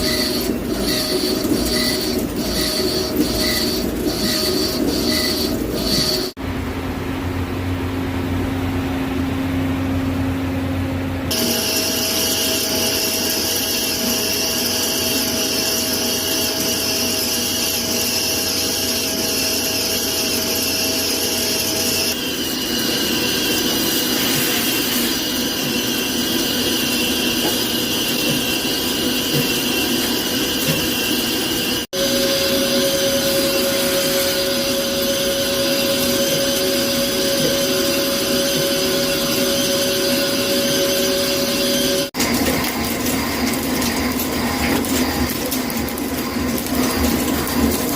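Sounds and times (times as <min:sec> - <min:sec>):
lathe machine whine: 0:00.0 - 0:06.4, 0:11.3 - 0:47.9.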